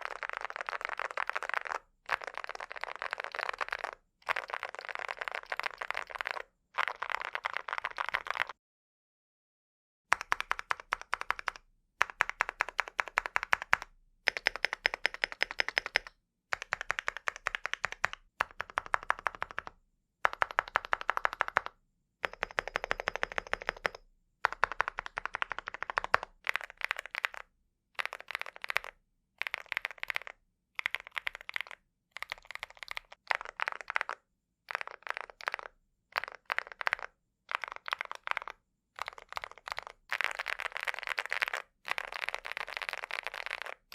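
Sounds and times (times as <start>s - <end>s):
mechanical keyboard typing: 0.0s - 8.5s, 10.1s - 19.7s, 20.3s - 27.4s, 28.0s - 43.9s.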